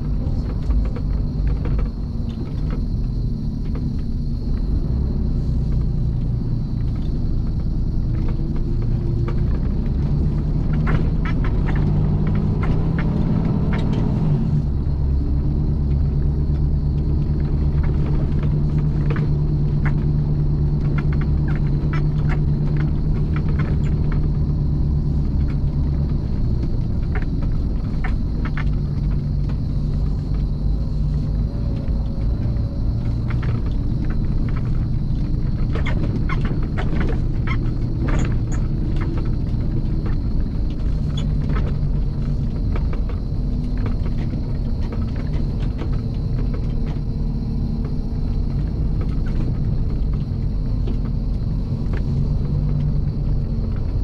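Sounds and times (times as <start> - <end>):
cab rattling and knocking: 0.0 - 54.0
truck diesel engine: 0.0 - 54.0.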